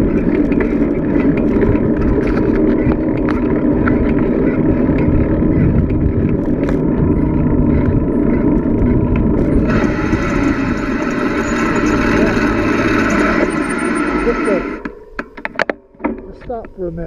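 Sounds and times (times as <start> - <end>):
wind rushing over microphone: 0.0 - 14.8
bicycle tyre noise: 0.0 - 15.6.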